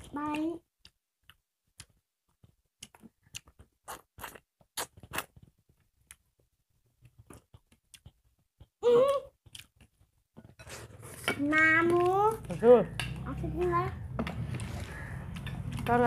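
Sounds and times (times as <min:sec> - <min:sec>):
people chewing and smacking: 0:00.0 - 0:16.0.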